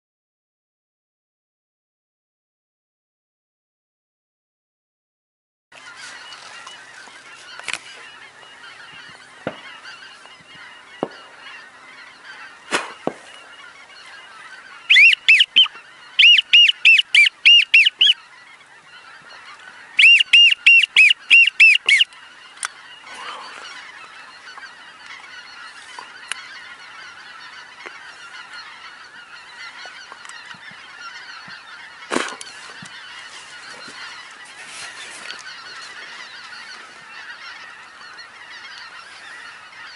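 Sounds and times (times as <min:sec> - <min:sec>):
distant bird calls: 0:05.8 - 0:39.9
geese honking: 0:05.8 - 0:39.9.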